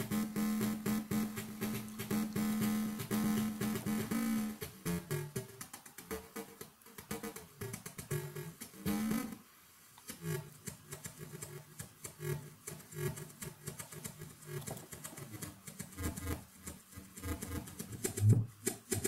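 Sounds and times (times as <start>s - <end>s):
electronic drum machine beat: 0.0s - 9.3s, 13.0s - 19.0s.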